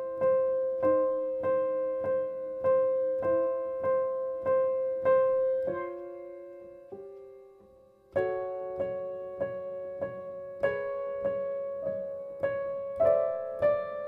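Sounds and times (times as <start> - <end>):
slow piano piece: 0.0 - 14.0.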